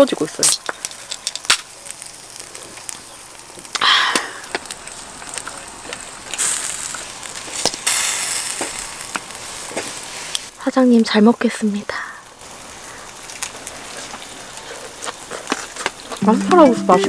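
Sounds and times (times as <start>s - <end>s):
charcoal crackles and pops: 0.0s - 17.0s
meat sizzling on a grill: 0.0s - 17.0s.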